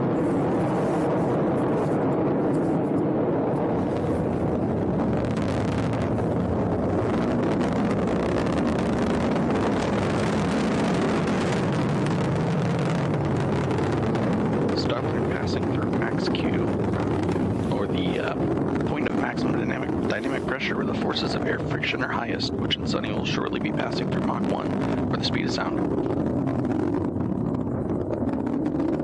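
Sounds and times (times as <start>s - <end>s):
rocket engine rumble: 0.0s - 29.0s.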